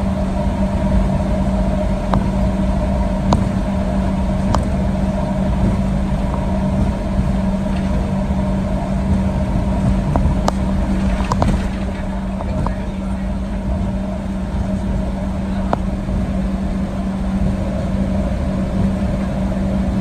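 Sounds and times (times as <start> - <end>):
aircraft cabin engine hum: 0.0 - 20.0.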